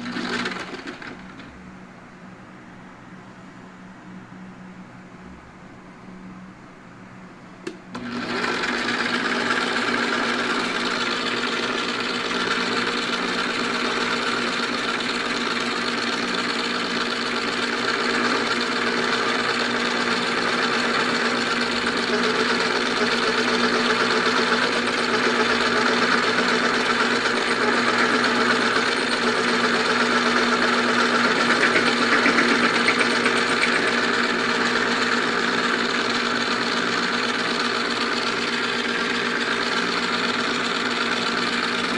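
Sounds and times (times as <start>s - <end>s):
lathe motor humming and whirring: 7.9s - 41.9s.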